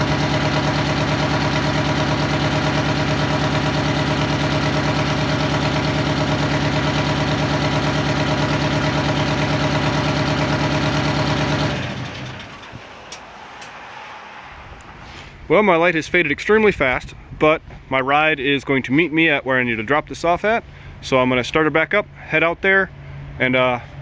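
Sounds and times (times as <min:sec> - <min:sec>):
diesel engine idling and shutting off: 0:00.0 - 0:17.9, 0:18.6 - 0:24.0.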